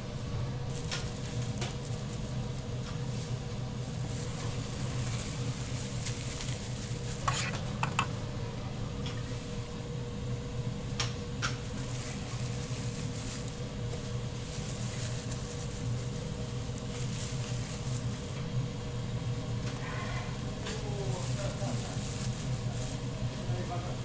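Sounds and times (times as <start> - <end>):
equipment hum: 0.0 - 24.0
light sizzling: 0.1 - 24.0.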